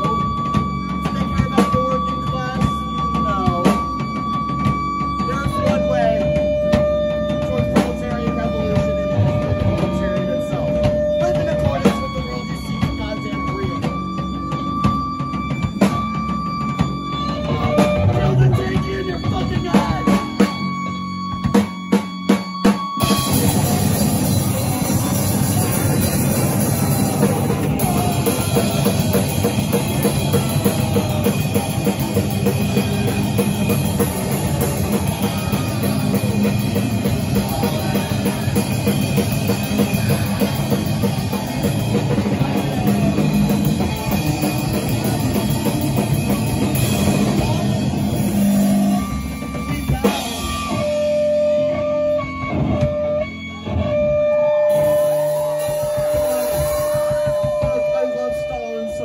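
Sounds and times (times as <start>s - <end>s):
held guitar tone: 0.0s - 59.0s
live rock band playing: 0.0s - 59.0s.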